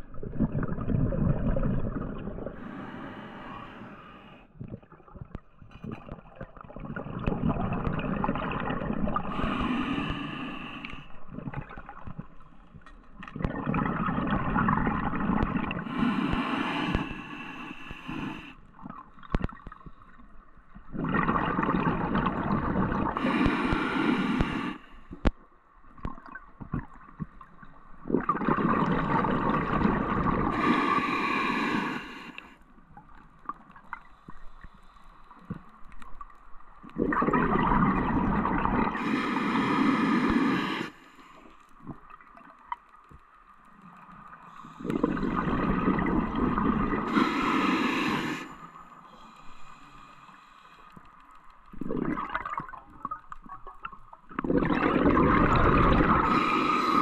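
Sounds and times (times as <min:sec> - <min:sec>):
scuba regulator breathing bubbles: 0:00.0 - 0:12.4, 0:13.3 - 0:25.4, 0:26.1 - 0:32.6, 0:36.8 - 0:42.2, 0:44.4 - 0:53.2, 0:54.3 - 0:57.0
underwater ambience: 0:00.0 - 0:57.0.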